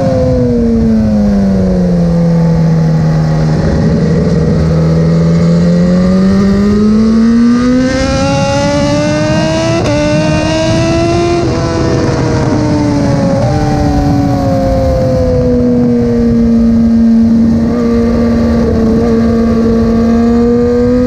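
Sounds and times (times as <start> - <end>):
motorcycle engine revving: 0.0 - 21.0
wind rush on microphone: 0.0 - 21.0.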